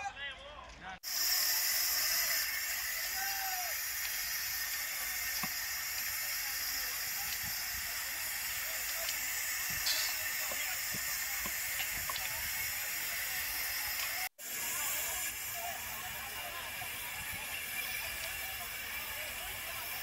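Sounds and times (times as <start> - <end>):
faint fire crackles: 0.4 - 20.0
fire hissing: 1.0 - 20.0.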